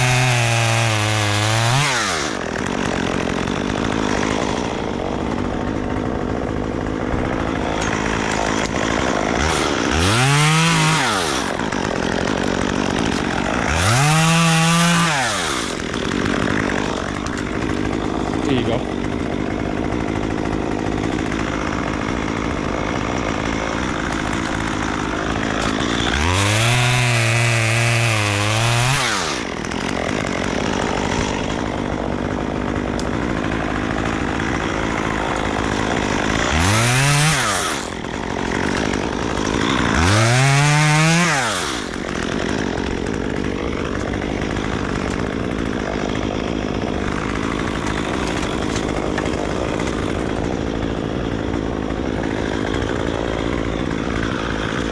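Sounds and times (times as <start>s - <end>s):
chainsaw engine idling and revving: 0.0s - 54.9s.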